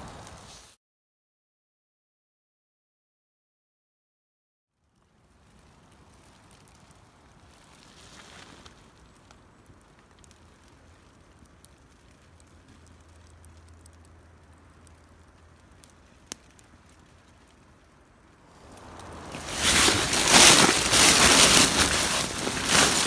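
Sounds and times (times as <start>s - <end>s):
campfire crackling and popping: 0.0s - 0.6s, 4.8s - 23.0s.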